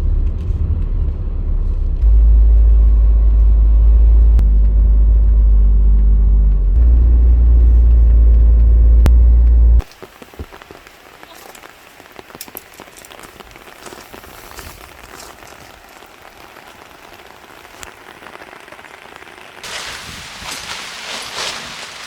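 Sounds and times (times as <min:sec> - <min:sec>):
raindrops ticking: 0:04.3 - 0:22.0.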